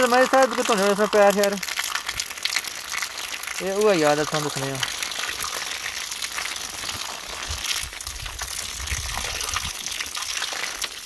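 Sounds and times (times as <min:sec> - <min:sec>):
water gushing from drain spout: 0:00.0 - 0:11.0
water splashing on ground: 0:00.0 - 0:11.0.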